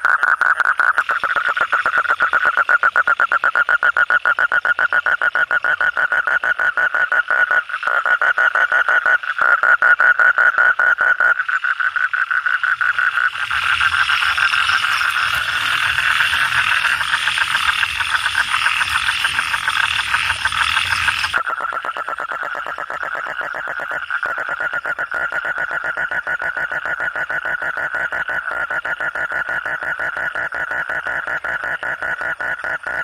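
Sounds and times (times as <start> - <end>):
toad pulsed trill call: 0.0 - 33.0.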